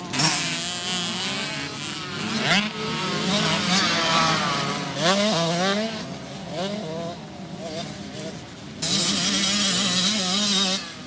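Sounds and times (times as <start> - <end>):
two-stroke motocross bike revving: 0.0 - 11.0.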